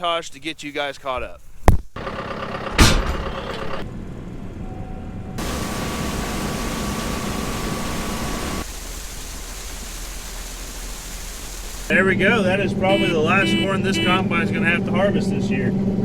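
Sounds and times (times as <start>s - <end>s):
harvest machinery running: 2.0s - 4.2s, 5.4s - 16.0s.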